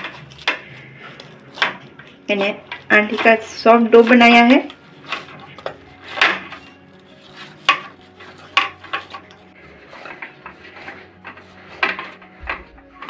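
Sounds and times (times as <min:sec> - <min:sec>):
dough being kneaded by hand: 0:00.0 - 0:13.0.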